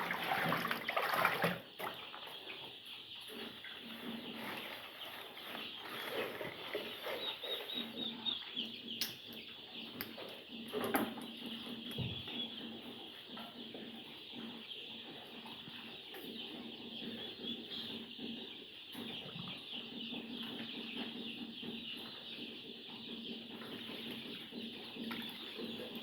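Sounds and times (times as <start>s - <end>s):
chicks peeping: 1.4s - 26.0s.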